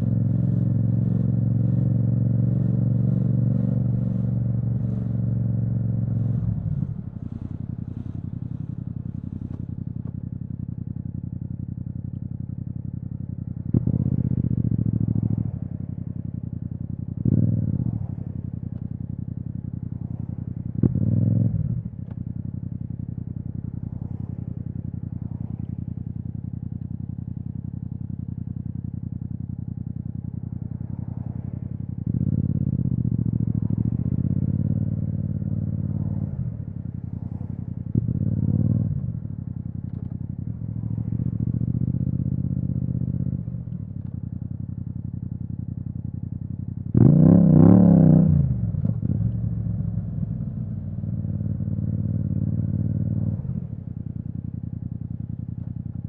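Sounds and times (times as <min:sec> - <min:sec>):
motorcycle engine running: 0:00.0 - 0:56.0
motorcycle throttle blips: 0:00.0 - 0:56.0.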